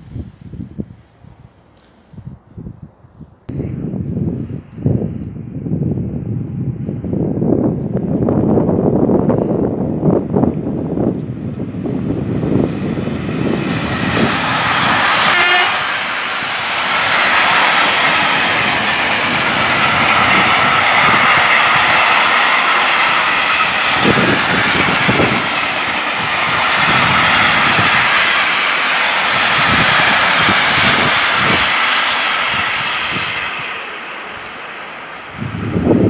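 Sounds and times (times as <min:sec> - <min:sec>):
wind buffeting microphone: 0:00.0 - 0:36.0
freight train passing: 0:05.6 - 0:36.0
wheel and rail noise: 0:06.8 - 0:36.0.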